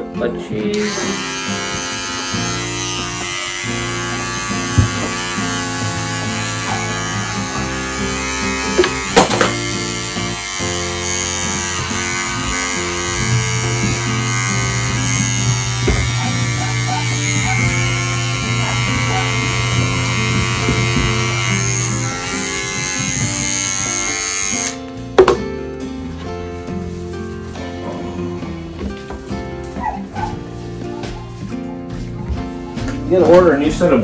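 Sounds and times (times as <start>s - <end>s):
background music: 0.0s - 34.0s
electric clippers buzzing: 0.7s - 31.6s.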